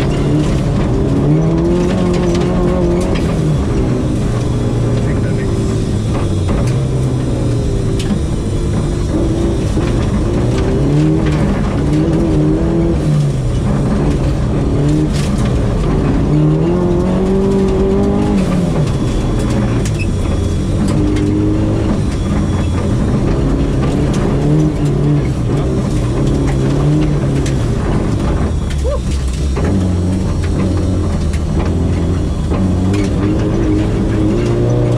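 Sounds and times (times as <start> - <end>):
car engine revving: 0.0 - 34.9
tyres on gravel: 0.0 - 34.9.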